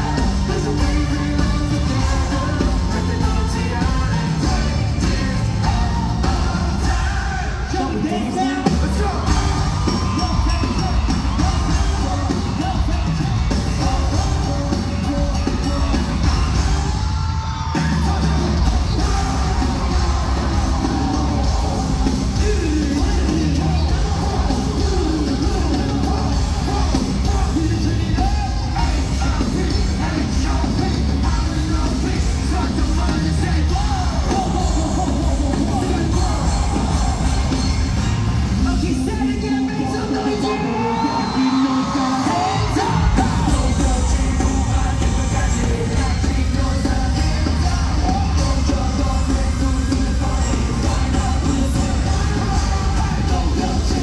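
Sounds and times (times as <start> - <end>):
heavy bass beat: 0.0 - 8.0, 8.6 - 17.2, 17.8 - 39.2, 42.6 - 54.0
audience yelling and cheering: 0.0 - 54.0
loud pop concert music: 0.0 - 54.0
sung and shouted vocals: 0.0 - 54.0.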